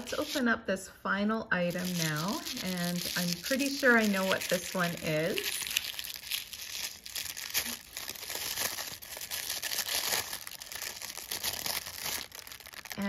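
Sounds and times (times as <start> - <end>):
tissue paper crinkling: 0.0 - 0.4, 1.7 - 13.0.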